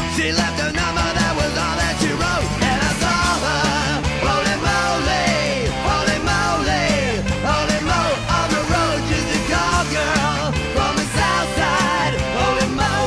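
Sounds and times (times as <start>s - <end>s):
rock song: 0.0s - 13.0s.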